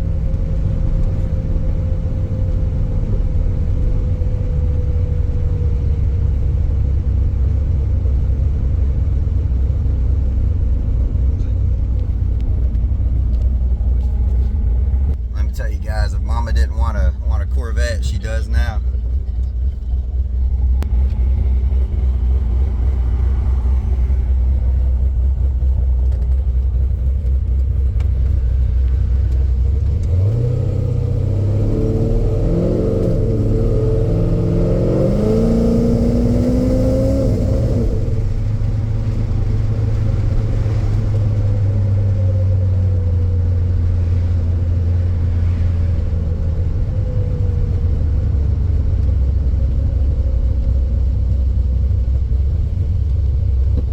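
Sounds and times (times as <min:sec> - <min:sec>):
car engine accelerating and cruising: 0:00.0 - 0:53.9.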